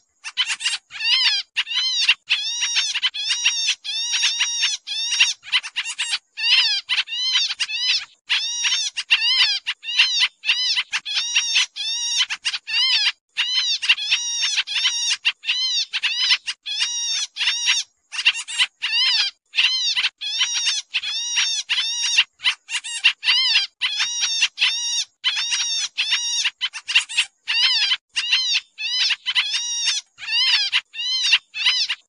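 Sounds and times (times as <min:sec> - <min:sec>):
bird giving harsh chattering calls: 0:00.0 - 0:32.0.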